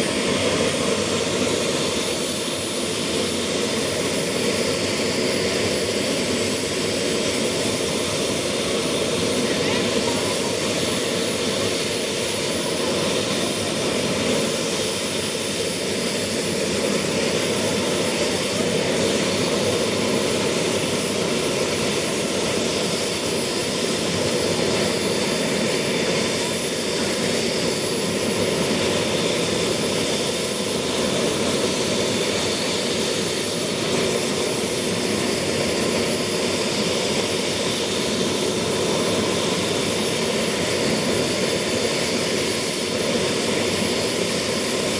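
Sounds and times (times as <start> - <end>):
helicopter turbine whine: 0.0 - 44.9.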